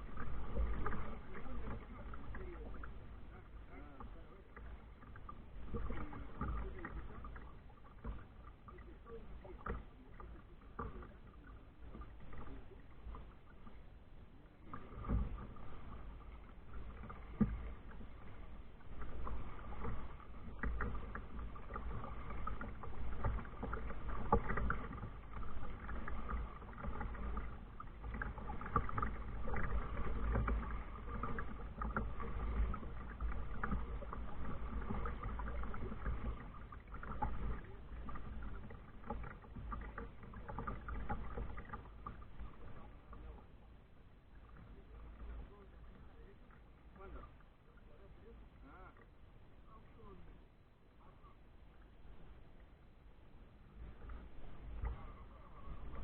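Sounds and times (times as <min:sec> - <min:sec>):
water splashing against kayak: 0:00.0 - 0:56.0.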